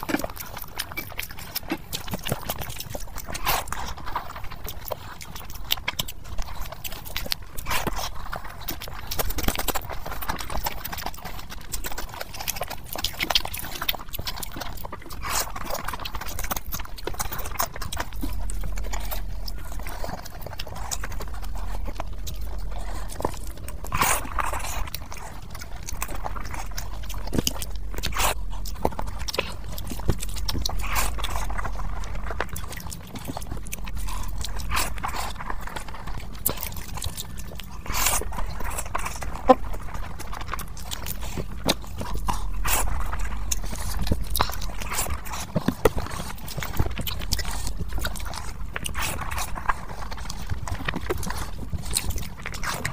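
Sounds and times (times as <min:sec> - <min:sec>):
chewing and lip-smacking: 0:00.0 - 0:52.9.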